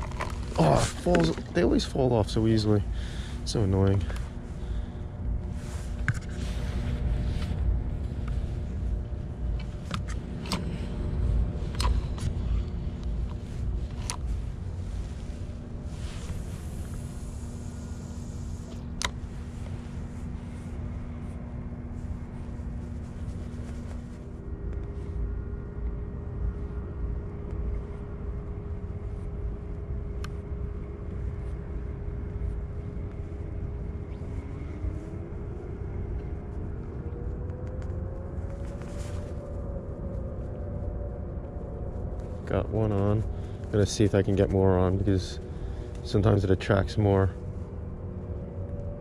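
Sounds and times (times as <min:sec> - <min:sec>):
distant engine droning: 0:00.0 - 0:49.0
faint steady hum: 0:00.0 - 0:49.0
low outdoor rumble: 0:00.0 - 0:49.0.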